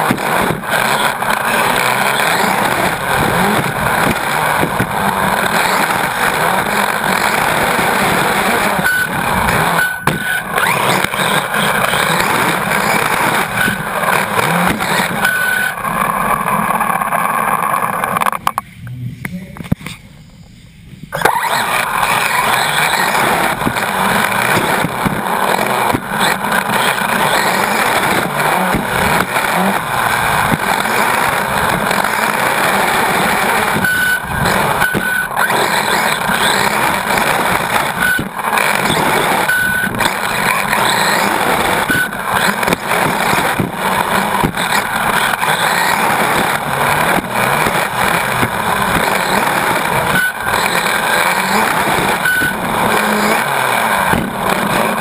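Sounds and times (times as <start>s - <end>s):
rc car drivetrain and tyre rush: 0.0s - 55.0s.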